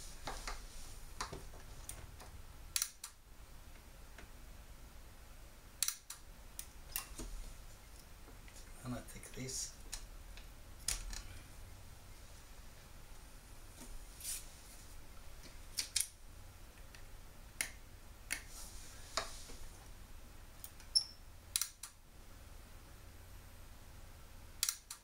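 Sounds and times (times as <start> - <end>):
faint low hum: 0.0 - 24.8.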